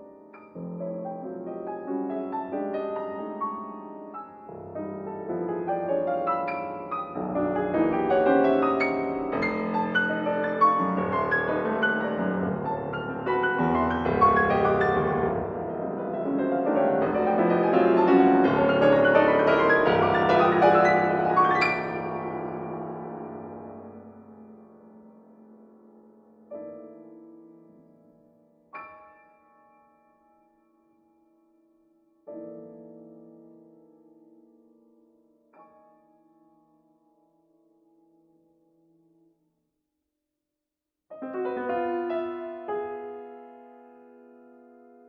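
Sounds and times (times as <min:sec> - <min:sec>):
classical piano piece: 0:00.0 - 0:39.4, 0:41.1 - 0:45.0.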